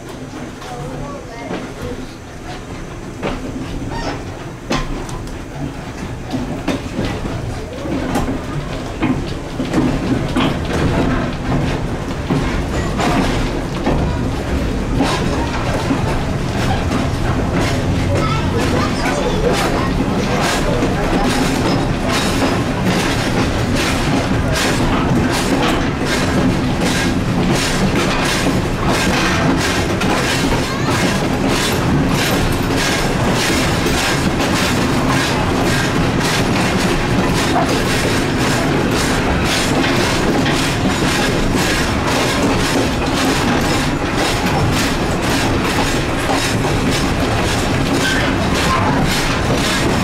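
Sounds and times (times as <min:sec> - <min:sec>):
train rumbling on track: 0:00.0 - 0:50.0
wheels clacking over rail joints: 0:00.0 - 0:50.0.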